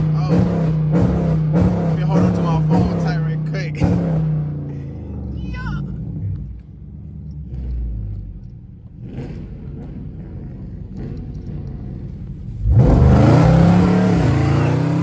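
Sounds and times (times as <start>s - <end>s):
car accelerating hard: 0.0s - 15.0s
car engines rumbling: 0.0s - 15.0s.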